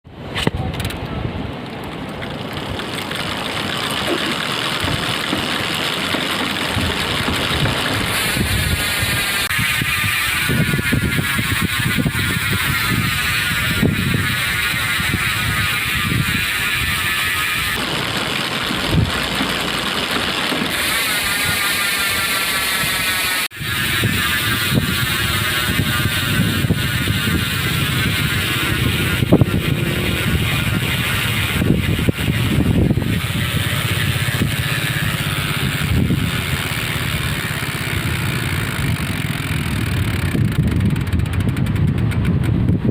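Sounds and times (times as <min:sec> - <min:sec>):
bicycle freewheel ratchet buzzing: 0:01.6 - 0:42.9.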